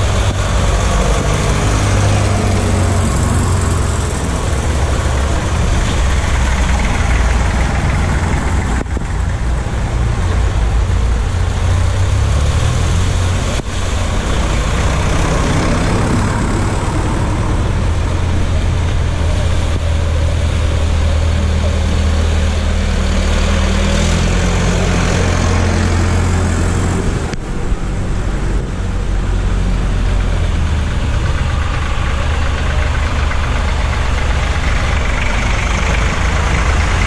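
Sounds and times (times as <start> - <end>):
tractor engines running: 0.0 - 37.0
water washing around wheels: 0.0 - 37.0.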